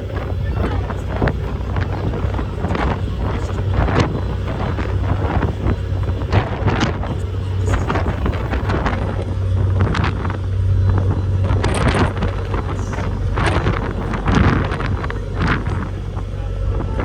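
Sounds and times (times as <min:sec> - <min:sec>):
ferry engines humming: 0:00.0 - 0:17.0
wind buffeting microphone: 0:00.0 - 0:17.0.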